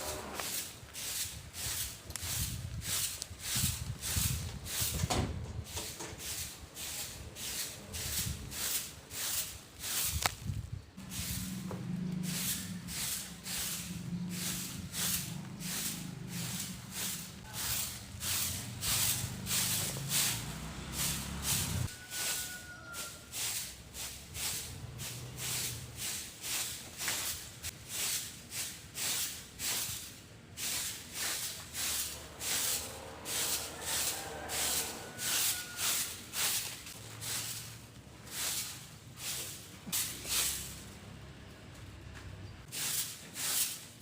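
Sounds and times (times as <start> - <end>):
broom sweeping: 0.0 - 41.3, 42.6 - 44.0.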